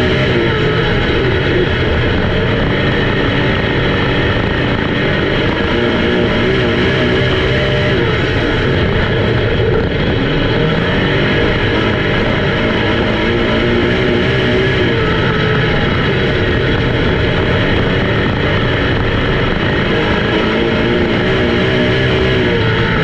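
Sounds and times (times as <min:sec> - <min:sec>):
race car engines at speed: 0:00.0 - 0:23.0
rock music: 0:00.0 - 0:23.0.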